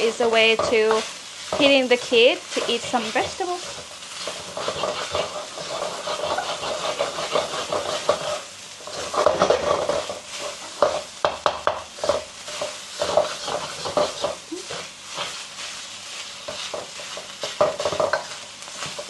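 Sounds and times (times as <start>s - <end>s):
food sizzling in a wok: 0.0s - 19.0s
spatula scraping and knocking pan: 0.0s - 19.0s.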